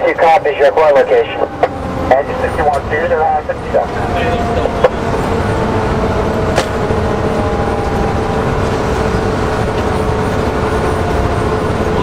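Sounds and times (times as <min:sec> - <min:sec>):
fire engine engine and road noise: 0:00.0 - 0:12.0.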